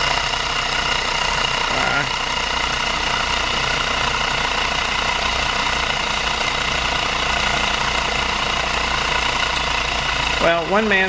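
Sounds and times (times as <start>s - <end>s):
hot-air engine running: 0.0s - 11.0s.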